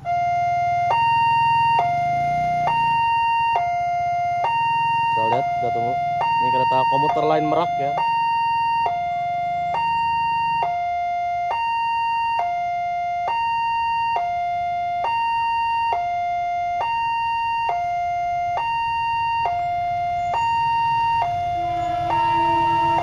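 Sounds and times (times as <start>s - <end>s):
two-tone level crossing siren: 0.0s - 23.0s.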